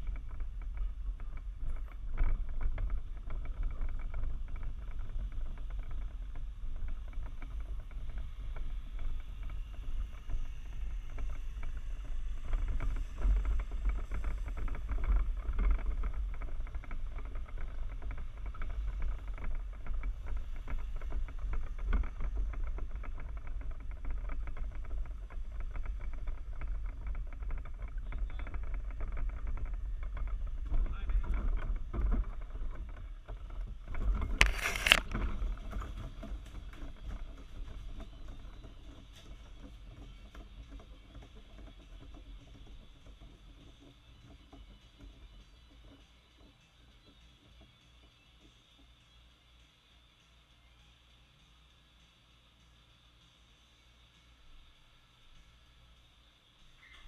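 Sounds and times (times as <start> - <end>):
kart rolling over concrete: 0.0 - 48.3.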